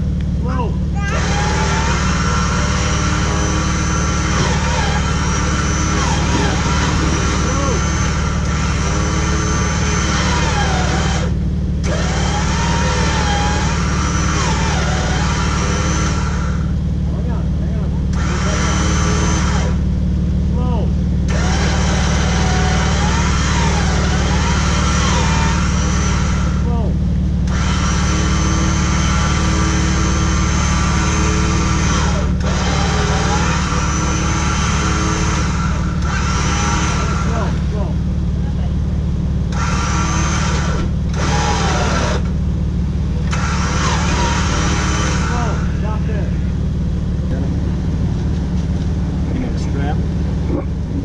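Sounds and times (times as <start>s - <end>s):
car engine idling: 0.0s - 51.0s
electric winch whining: 1.0s - 16.9s, 18.1s - 19.9s, 21.2s - 38.0s, 39.4s - 51.0s.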